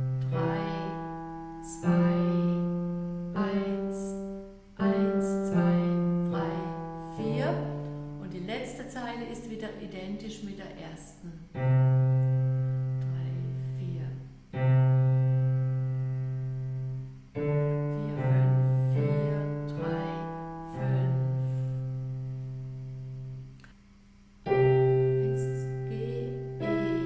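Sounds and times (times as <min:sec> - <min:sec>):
digital piano slow notes: 0:00.0 - 0:09.5, 0:11.3 - 0:23.8, 0:24.4 - 0:27.0.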